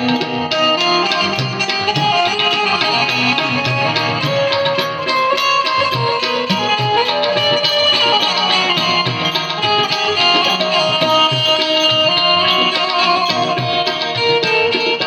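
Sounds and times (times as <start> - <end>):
keyed banjo melody: 0.0 - 15.0
tabla rhythm: 0.0 - 15.0.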